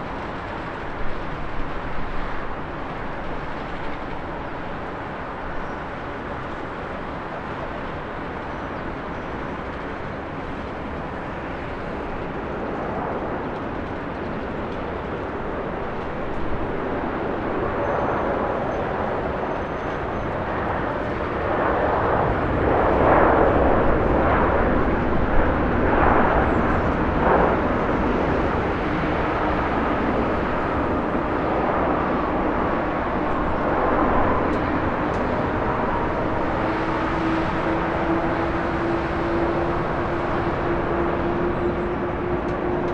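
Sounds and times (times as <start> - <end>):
jet airliner landing: 0.0 - 42.9.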